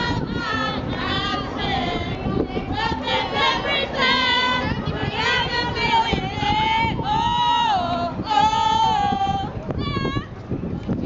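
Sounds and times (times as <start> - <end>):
women singing together: 0.0 - 10.3.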